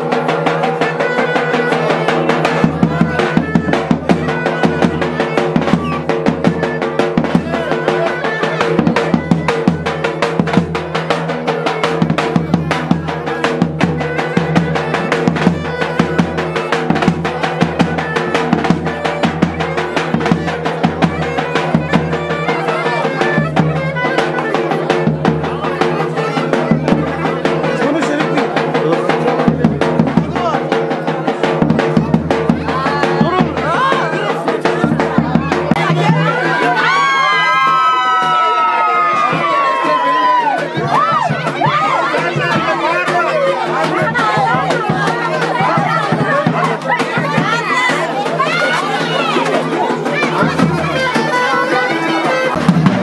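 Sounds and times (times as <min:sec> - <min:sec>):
instrumental music with drum beat: 0:00.0 - 0:53.0.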